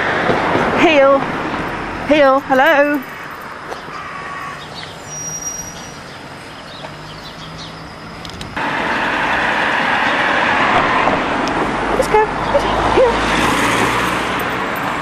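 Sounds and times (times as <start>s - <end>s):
steady engine hum: 0.0s - 15.0s
traffic rushing by: 0.0s - 15.0s.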